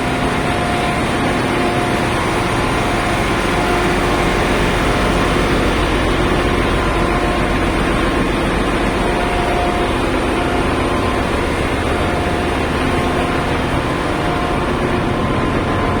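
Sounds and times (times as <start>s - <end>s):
engine room machinery running: 0.0s - 16.0s.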